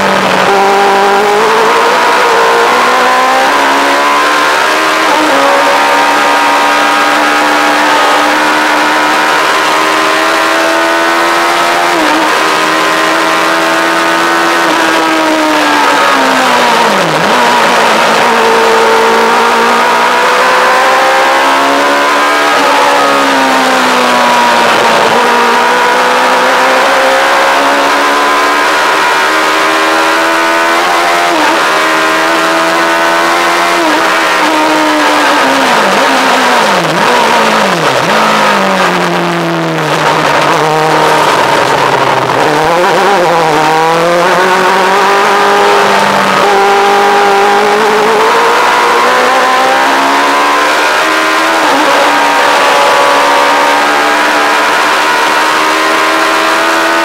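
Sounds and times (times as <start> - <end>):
motorcycle engine revving through gears: 0.0 - 57.0
wind and road noise: 0.0 - 57.0.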